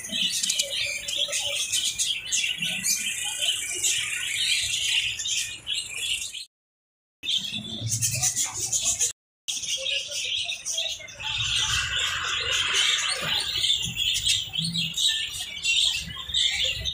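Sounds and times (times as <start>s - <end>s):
lovebirds chirping and chattering: 0.0s - 6.5s, 7.2s - 16.9s.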